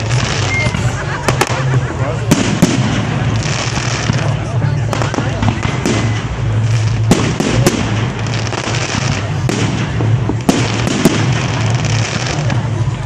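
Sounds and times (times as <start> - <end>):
fireworks crackle and rumble: 0.0 - 13.0.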